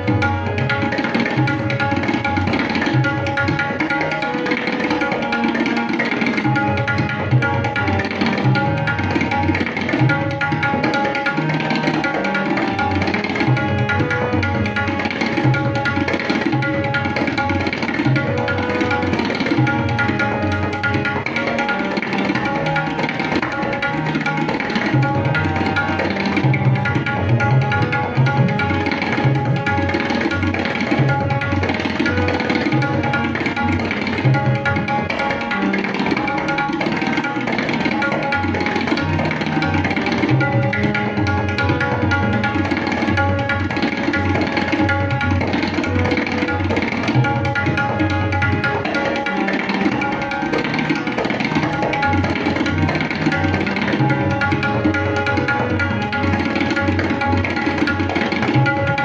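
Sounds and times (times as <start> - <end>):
harmonium melody: 0.0 - 59.0
tabla drumming: 0.0 - 59.0.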